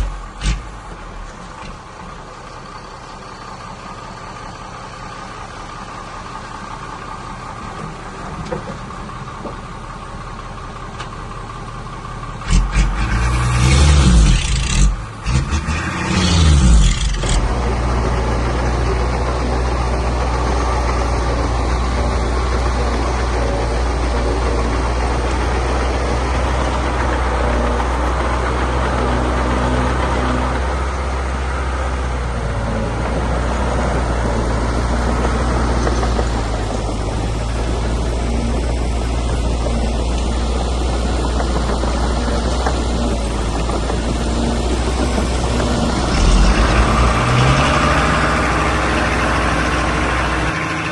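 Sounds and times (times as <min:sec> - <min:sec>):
diesel engine running and revving: 0:00.0 - 0:50.9.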